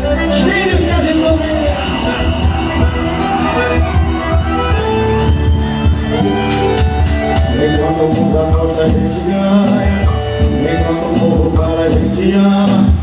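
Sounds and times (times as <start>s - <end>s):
accordion: 0.0s - 13.0s
bass guitar: 0.0s - 13.0s
drums with kick-drum beat: 0.0s - 13.0s.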